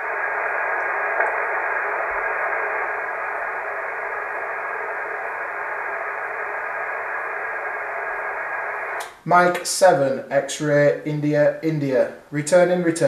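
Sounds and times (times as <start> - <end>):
radio band noise hiss: 0.0 - 13.0.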